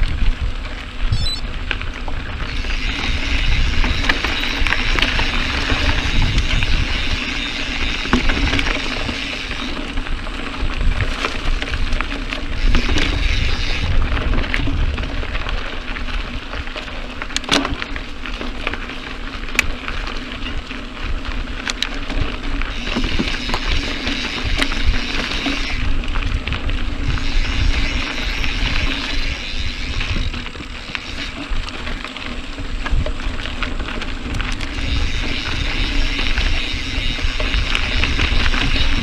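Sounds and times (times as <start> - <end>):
wind on microphone: 0.0 - 16.4, 22.0 - 39.0
tyres crunching over gravel: 0.5 - 39.0
bike knocks and rattles: 1.8 - 39.0.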